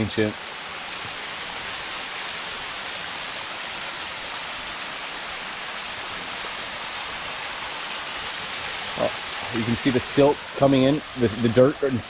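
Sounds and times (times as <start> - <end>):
waterfall splashing water: 0.0 - 12.0.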